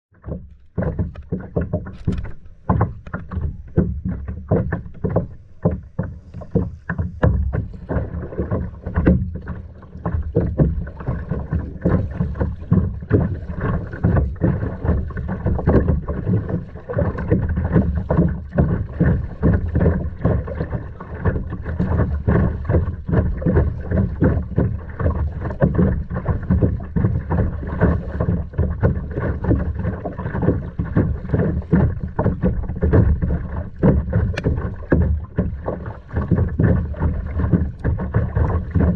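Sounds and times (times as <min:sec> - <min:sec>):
water splashing around kayak: 0:00.1 - 0:38.9
wind rumble on microphone: 0:00.2 - 0:38.9.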